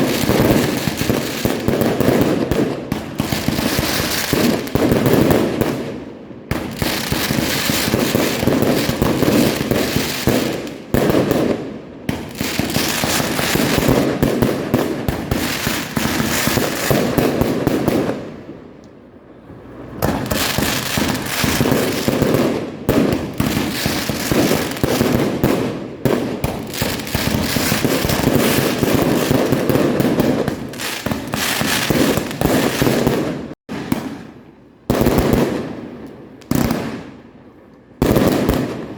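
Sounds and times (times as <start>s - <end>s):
fireworks bangs and crackling: 0.0s - 18.7s, 19.9s - 37.3s, 38.0s - 38.9s.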